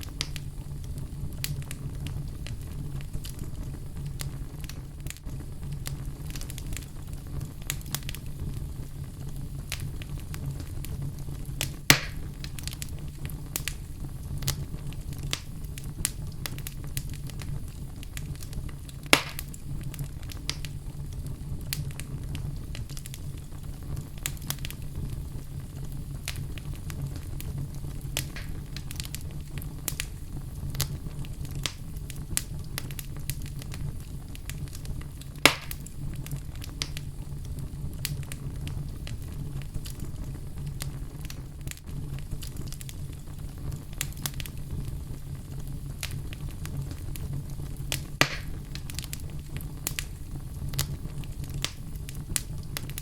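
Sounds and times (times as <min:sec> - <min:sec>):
loud fire pops: 0:00.0 - 0:53.0
wood fire crackling: 0:00.0 - 0:53.0.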